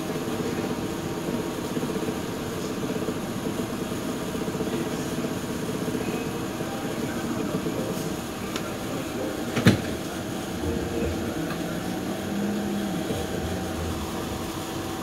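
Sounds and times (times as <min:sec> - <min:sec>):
streetcar hum and rumble: 0:00.0 - 0:15.0.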